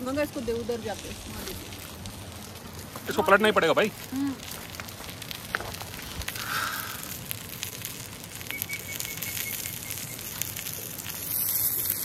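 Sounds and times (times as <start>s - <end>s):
steady background hiss: 0.0s - 12.0s
wood fire crackling and popping: 0.0s - 12.0s.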